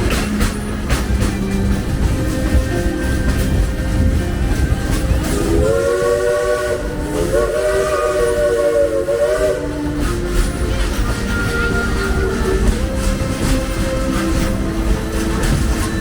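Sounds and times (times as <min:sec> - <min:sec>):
low rumble of moving train: 0:00.0 - 0:16.0
steam locomotive whistle: 0:02.0 - 0:16.0.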